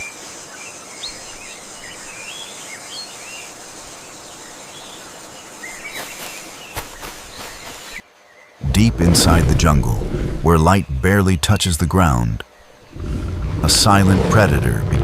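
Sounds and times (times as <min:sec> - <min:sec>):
insects droning: 0:00.0 - 0:15.0
birds chirping: 0:00.6 - 0:15.0.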